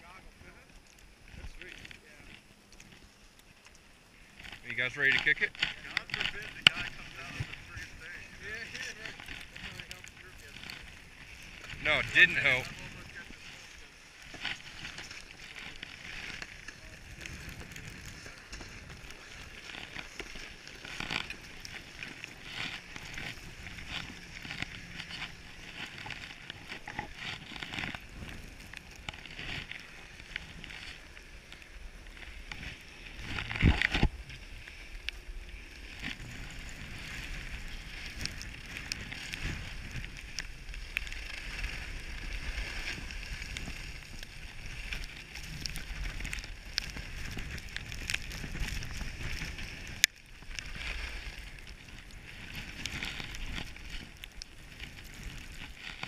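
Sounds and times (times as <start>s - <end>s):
skis scraping over snow: 0.0s - 56.0s
wind rumble on microphone: 4.2s - 56.0s.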